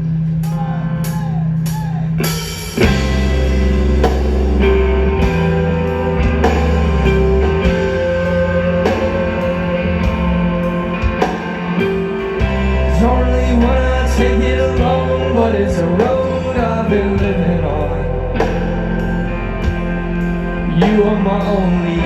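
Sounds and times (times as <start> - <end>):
live rock band playing: 0.0 - 22.0
electric guitar: 2.2 - 22.0.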